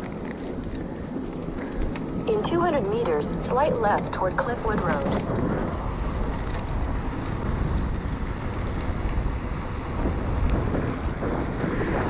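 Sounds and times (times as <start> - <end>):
bike tyres rolling on pavement: 0.0 - 12.0
wind buffeting microphone: 0.0 - 12.0.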